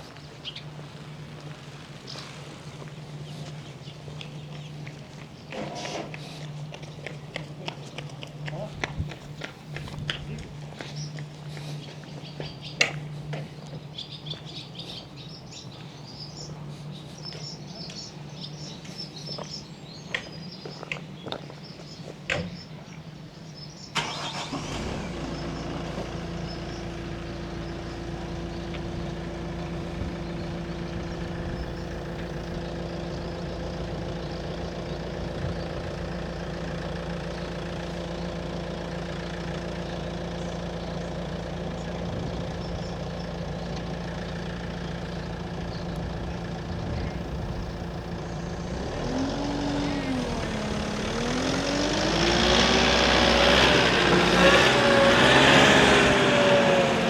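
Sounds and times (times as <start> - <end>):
engine idling: 0.0 - 18.7, 23.9 - 57.0
birds chirping: 0.0 - 57.0.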